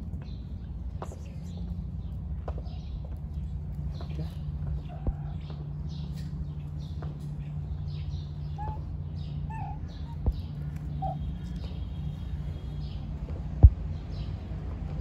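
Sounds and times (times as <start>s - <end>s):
street hum: 0.0s - 15.0s.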